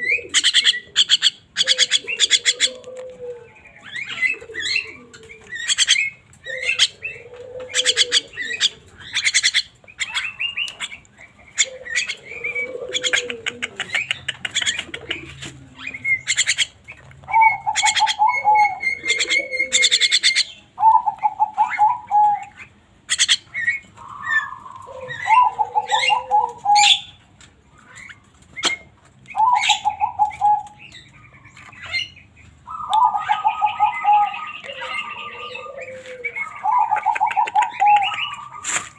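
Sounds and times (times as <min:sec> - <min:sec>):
myna calling and singing: 0:00.0 - 0:38.9.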